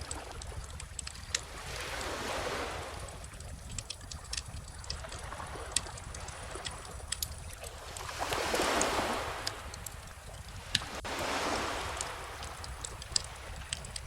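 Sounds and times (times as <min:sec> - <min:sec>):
bonfire crackling: 0:00.0 - 0:14.0
ocean waves washing in: 0:00.0 - 0:14.0.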